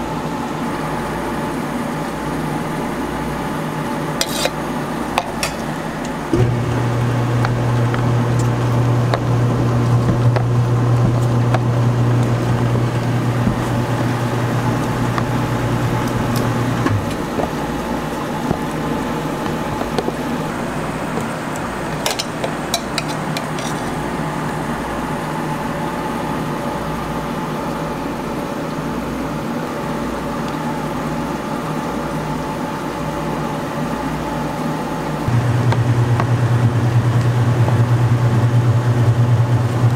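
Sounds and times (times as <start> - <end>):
freezer machine loud low hum: 0.0 - 39.9
quieter machine hum: 0.0 - 39.9.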